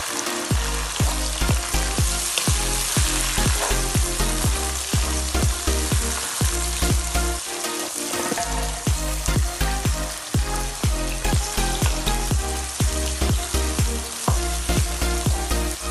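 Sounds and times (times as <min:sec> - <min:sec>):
vegetables sizzling in oil: 0:00.0 - 0:15.9.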